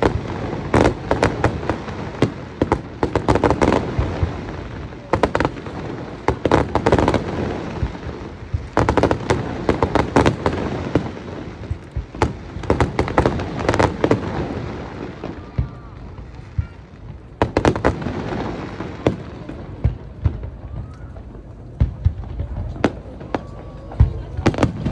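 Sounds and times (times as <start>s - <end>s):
fireworks bangs and crackles: 0.0s - 24.9s.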